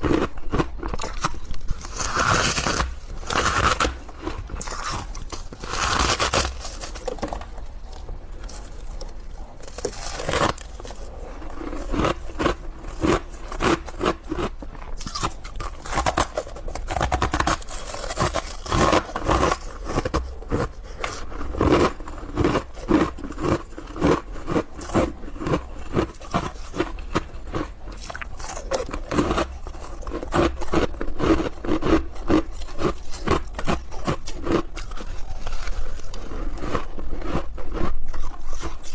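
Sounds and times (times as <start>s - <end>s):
chewing crunchy ice: 0.0s - 38.9s.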